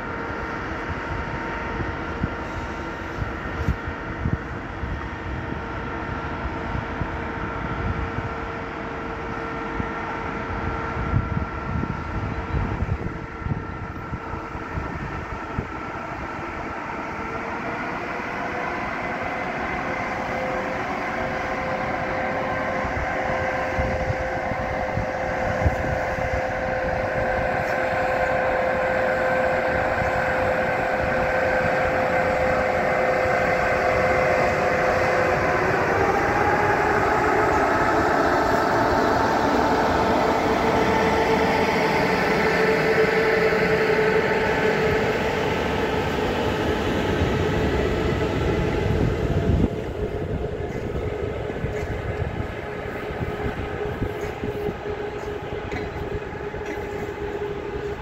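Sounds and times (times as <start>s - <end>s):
electric locomotive passing: 0.0s - 58.0s
train wheels rumbling on rail: 0.0s - 58.0s.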